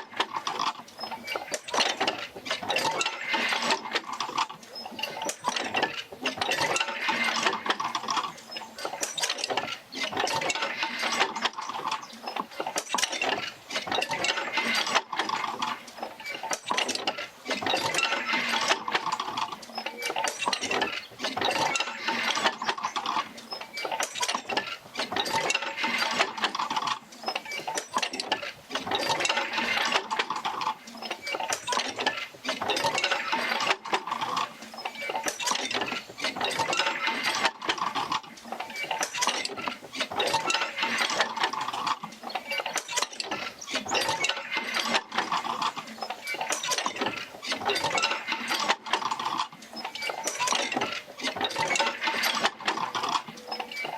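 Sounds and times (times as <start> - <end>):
mechanical clattering of wheel: 0.0 - 53.9.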